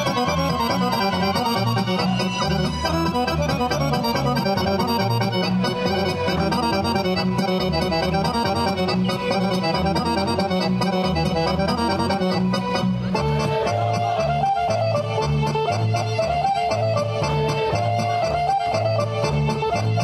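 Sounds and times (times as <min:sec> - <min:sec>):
folk dance music with accordion: 0:00.0 - 0:20.0.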